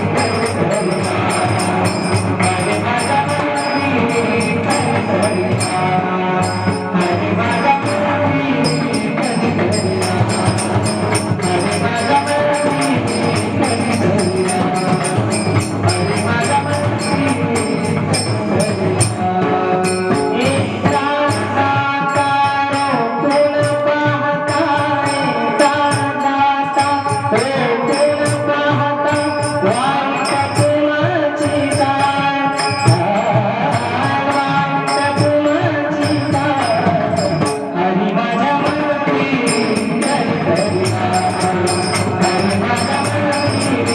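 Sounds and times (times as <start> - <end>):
hand cymbals striking: 0.0 - 37.8, 38.4 - 43.9
drumming: 0.0 - 43.9.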